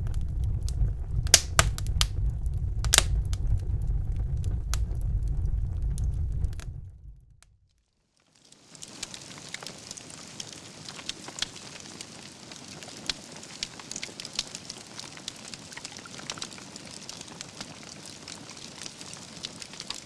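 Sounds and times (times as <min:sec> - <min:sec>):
fire hissing: 0:00.0 - 0:07.2, 0:08.4 - 0:20.0
logs crackling and popping: 0:00.0 - 0:07.6, 0:08.2 - 0:20.0.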